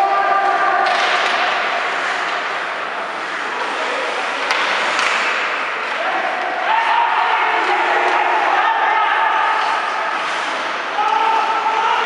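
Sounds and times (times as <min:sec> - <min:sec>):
hockey sticks and puck clacking: 0:00.0 - 0:12.0
skates scraping on ice: 0:00.0 - 0:12.0.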